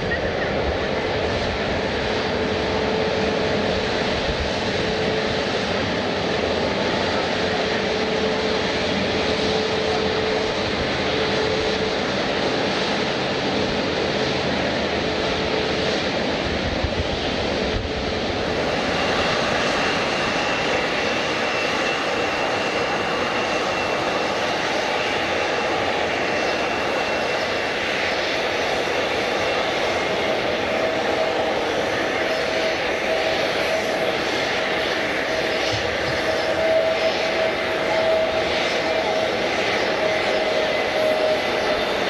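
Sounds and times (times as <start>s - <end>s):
airliner engines running: 0.0s - 42.0s.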